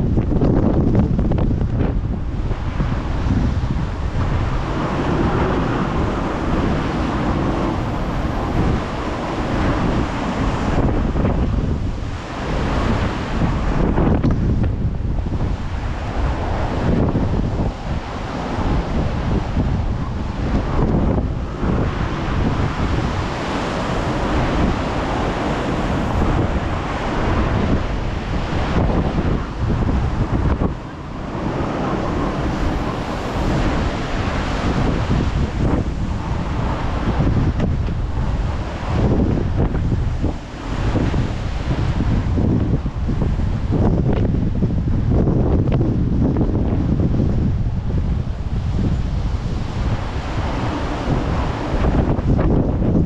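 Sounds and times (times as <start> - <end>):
rough sea surf: 0.0 - 53.0
storm wind buffeting microphone: 0.0 - 53.0
waves breaking on the coast: 0.0 - 53.0.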